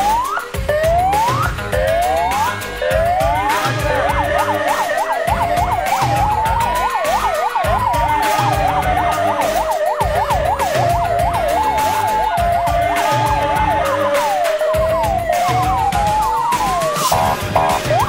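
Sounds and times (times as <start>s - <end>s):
background music with steady beat: 0.0s - 18.0s
police siren wailing: 0.0s - 18.0s
police siren yelping: 0.0s - 18.0s.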